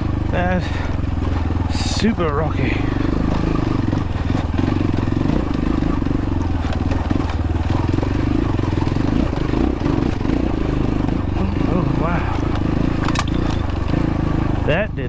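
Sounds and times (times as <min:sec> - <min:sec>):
dirt bike engine at low revs: 0:00.0 - 0:15.0.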